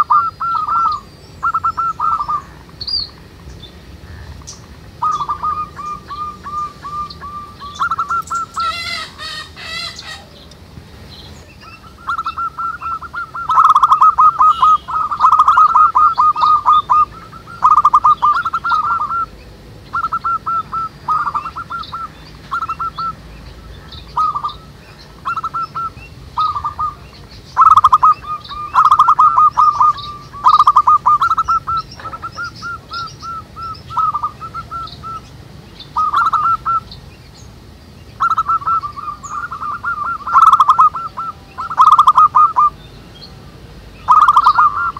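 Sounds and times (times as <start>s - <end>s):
bird buzzy call: 0.0s - 10.6s, 11.2s - 37.5s, 38.1s - 43.3s, 44.0s - 44.9s
doves cooing: 0.0s - 37.1s, 38.1s - 42.8s, 44.0s - 44.9s
small birds chirping: 0.0s - 44.9s.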